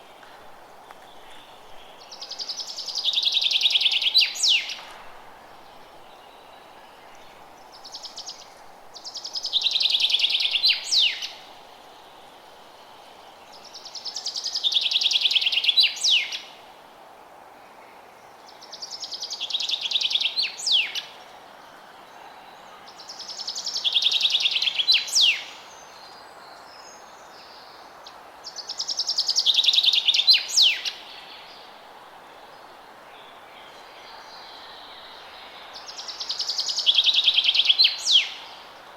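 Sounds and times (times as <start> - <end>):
songbird singing: 0.0 - 16.6, 17.6 - 38.9
faint outdoor hiss: 0.0 - 38.9.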